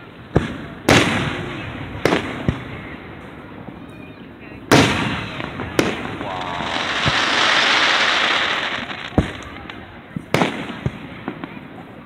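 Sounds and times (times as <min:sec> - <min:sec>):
fireworks bursting: 0:00.0 - 0:03.8, 0:04.6 - 0:12.0.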